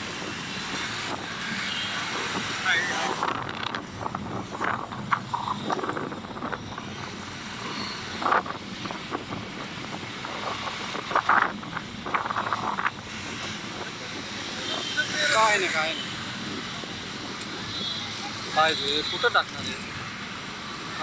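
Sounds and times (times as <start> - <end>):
vehicle running noise: 0.0 - 21.0.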